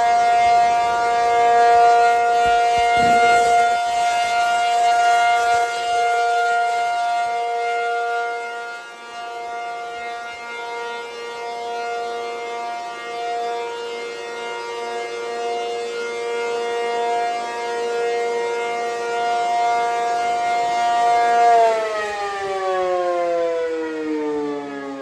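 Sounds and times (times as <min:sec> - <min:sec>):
tornado siren steady chord: 0:00.0 - 0:25.0.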